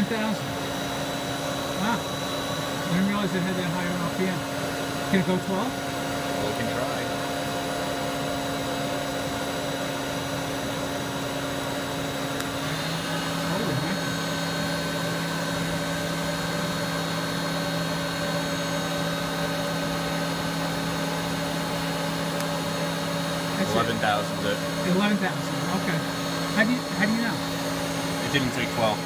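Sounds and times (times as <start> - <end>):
machine spindle whining: 0.0 - 29.0.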